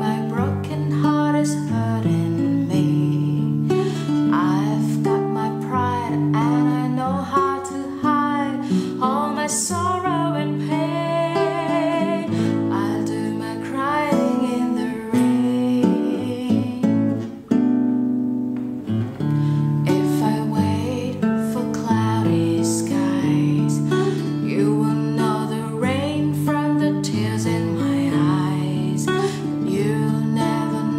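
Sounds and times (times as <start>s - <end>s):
woman singing: 0.0s - 17.4s, 19.7s - 30.9s
acoustic guitar: 0.0s - 30.9s.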